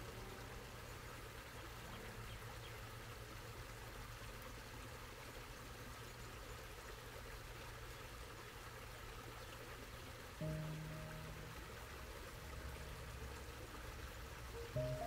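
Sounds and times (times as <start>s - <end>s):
stream trickling over rocks: 0.0s - 15.0s.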